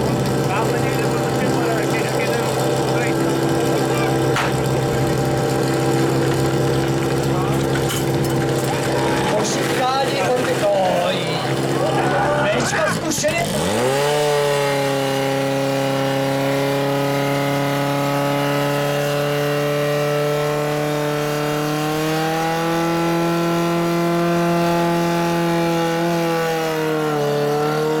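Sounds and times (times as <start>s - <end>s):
pump engine running hard: 0.0s - 28.0s.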